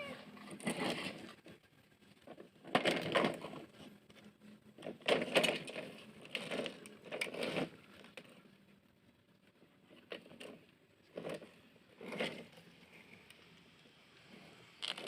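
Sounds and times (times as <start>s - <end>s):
toy truck scraping: 0.0s - 8.6s, 9.8s - 15.0s.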